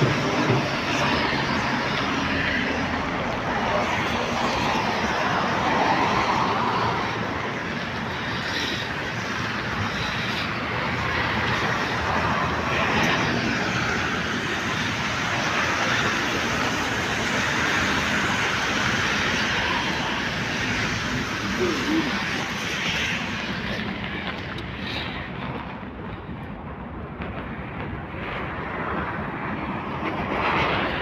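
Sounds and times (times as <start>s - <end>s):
traffic swishing on wet road: 0.0s - 31.0s.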